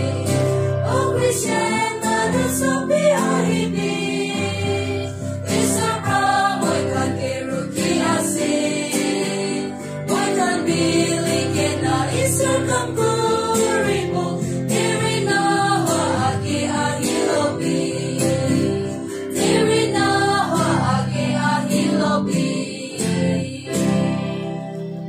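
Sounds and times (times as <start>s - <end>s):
young voices singing a hymn: 0.0s - 24.6s.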